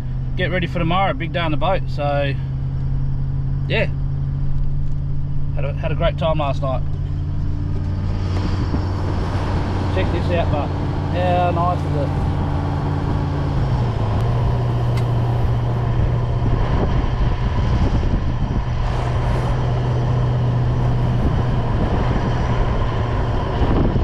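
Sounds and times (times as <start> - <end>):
road noise: 0.0 - 24.0
vehicle engine humming: 0.0 - 24.0.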